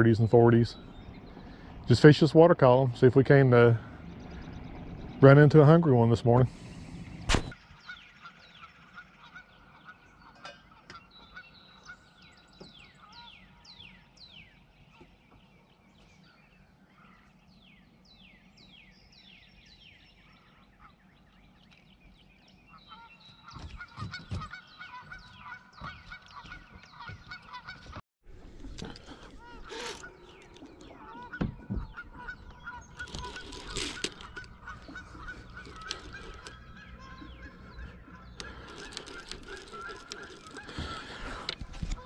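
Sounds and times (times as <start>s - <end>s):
birds honking calls: 0.0s - 28.0s, 28.7s - 42.0s.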